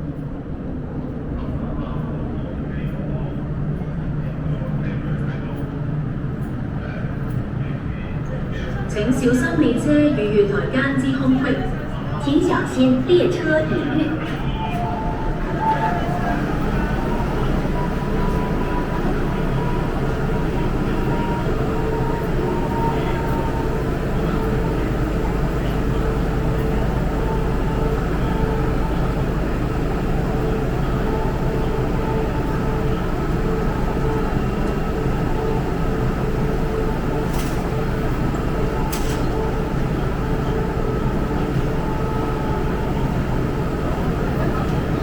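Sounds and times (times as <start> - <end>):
train rumble and hum: 0.0 - 45.0
faint steady tones: 1.1 - 45.0.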